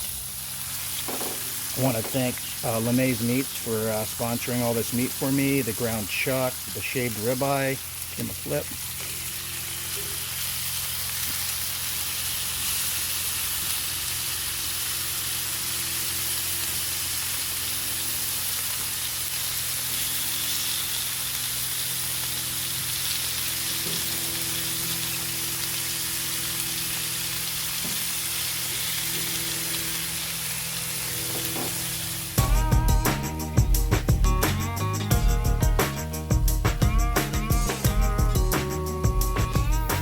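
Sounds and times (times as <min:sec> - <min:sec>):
meat sizzling in a frying pan: 0:00.0 - 0:34.3.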